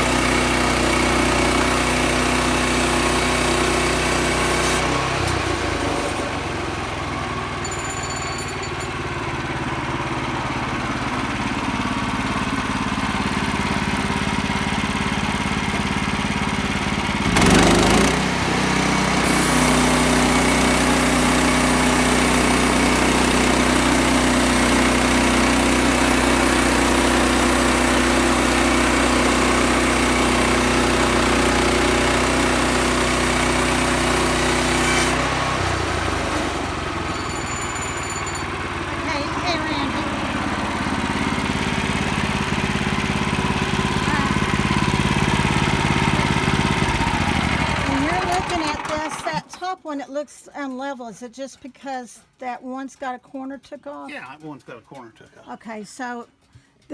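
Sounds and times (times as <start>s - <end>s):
sawmill engine running: 0.0s - 49.7s.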